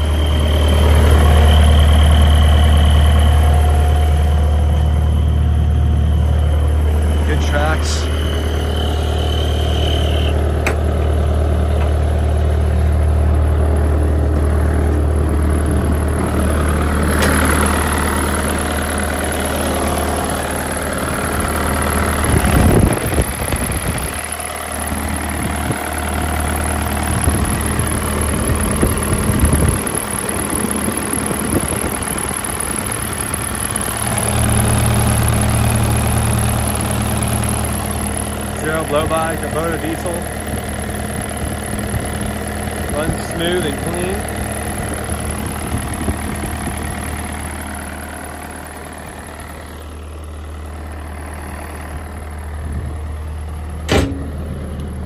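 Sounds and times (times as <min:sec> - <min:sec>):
mini excavator engine idling: 0:00.0 - 0:55.0.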